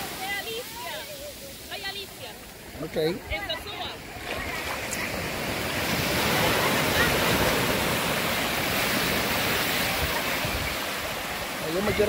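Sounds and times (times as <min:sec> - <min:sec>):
surf breaking on sand: 0:00.0 - 0:12.0.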